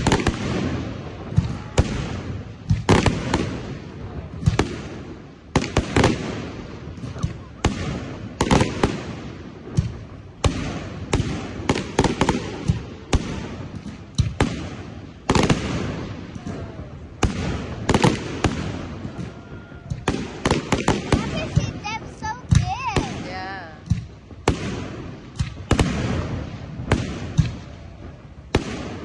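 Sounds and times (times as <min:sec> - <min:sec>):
fireworks exploding with echoes: 0:00.0 - 0:29.0.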